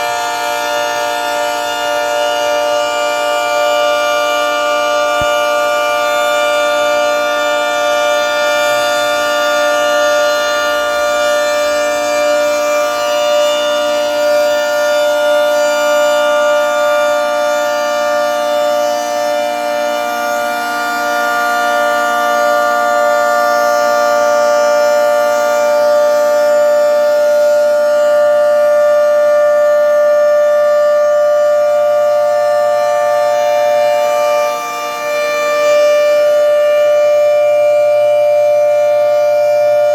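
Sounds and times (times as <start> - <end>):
three-tone warning siren: 0.0 - 39.9.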